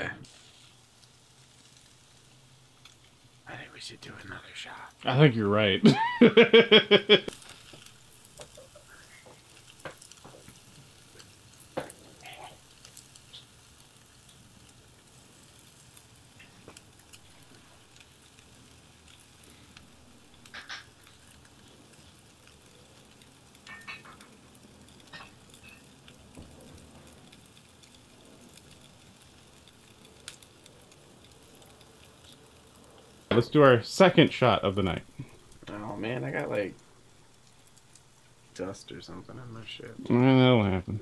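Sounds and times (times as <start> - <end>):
grease crackling and popping: 0.0 - 41.0
meat sizzling on a grill: 0.0 - 41.0.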